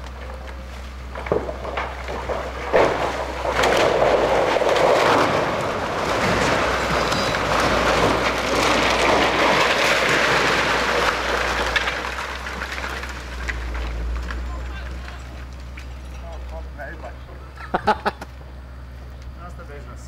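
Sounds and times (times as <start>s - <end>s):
stone walls collapsing: 0.0s - 16.8s.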